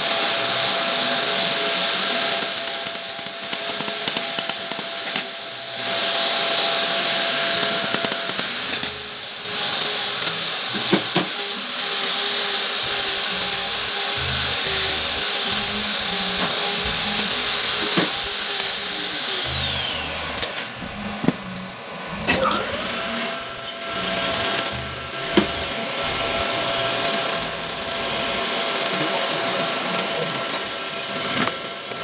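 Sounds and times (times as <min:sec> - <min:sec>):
power tool whining: 0:00.0 - 0:32.0.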